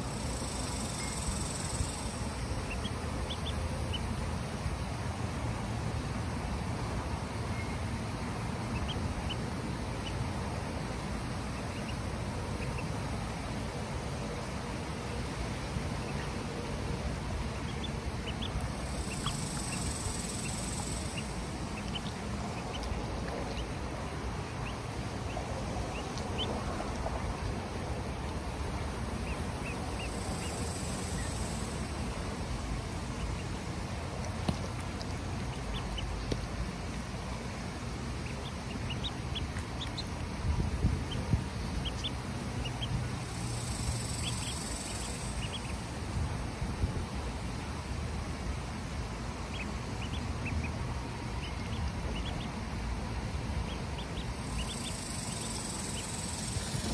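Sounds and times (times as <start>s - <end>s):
background hiss: 0.0s - 56.9s
ducklings peeping: 0.0s - 56.9s.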